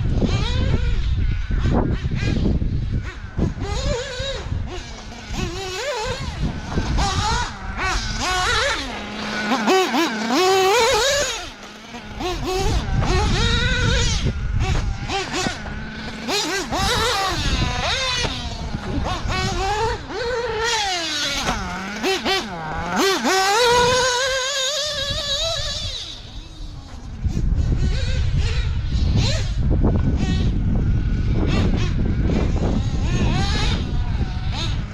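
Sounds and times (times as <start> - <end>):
model car engine revving: 0.0 - 34.9.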